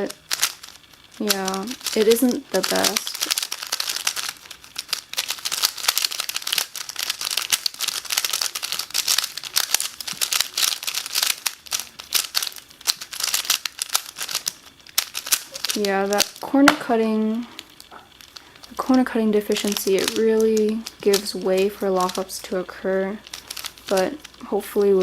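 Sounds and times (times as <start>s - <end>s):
puzzle cube clicking: 0.0s - 25.0s.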